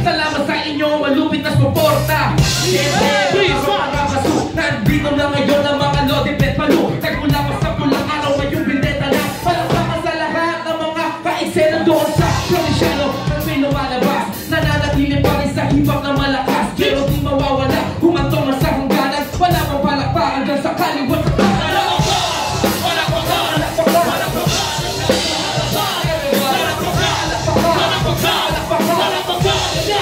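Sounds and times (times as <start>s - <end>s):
person rapping into a microphone: 0.0s - 30.0s
live band music: 1.4s - 10.5s, 11.2s - 30.0s.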